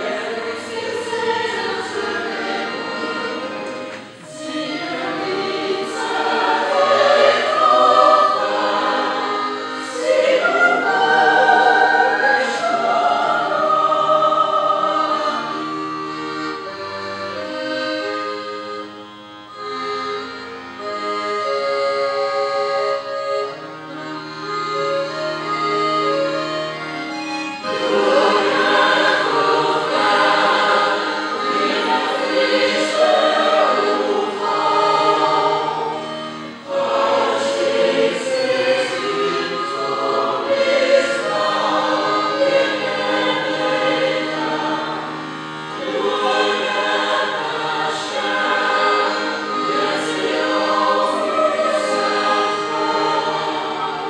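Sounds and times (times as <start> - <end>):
choir singing: 0.0 - 18.8, 19.6 - 54.0
instrumental accompaniment: 0.0 - 54.0.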